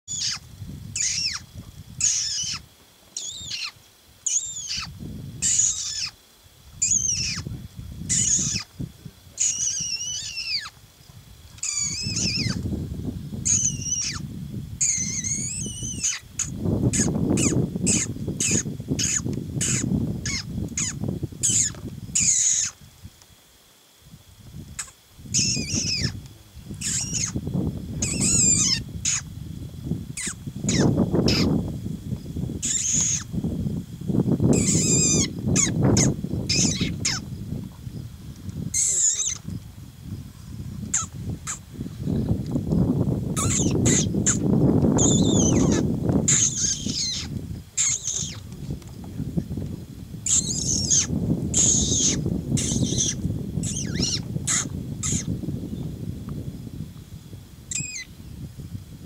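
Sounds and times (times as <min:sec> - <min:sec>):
night bird calling: 0:00.1 - 0:08.8, 0:09.4 - 0:10.8, 0:11.6 - 0:22.8, 0:24.7 - 0:29.4, 0:30.1 - 0:33.4, 0:34.5 - 0:38.1, 0:38.7 - 0:40.2, 0:40.8 - 0:42.3, 0:43.4 - 0:48.5, 0:50.2 - 0:55.8, 0:57.7 - 0:58.3.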